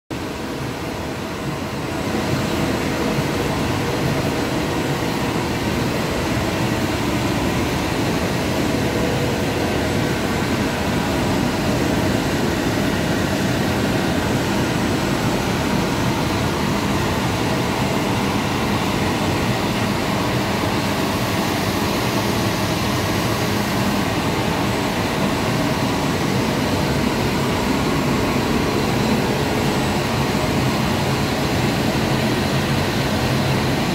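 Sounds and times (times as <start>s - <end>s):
constant hum tones: 0.2s - 33.9s
plastic extrusion machine drone: 0.2s - 33.9s.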